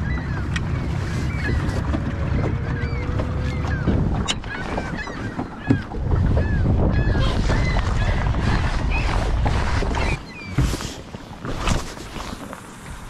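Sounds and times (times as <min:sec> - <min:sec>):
birds chirping: 0:00.0 - 0:12.4.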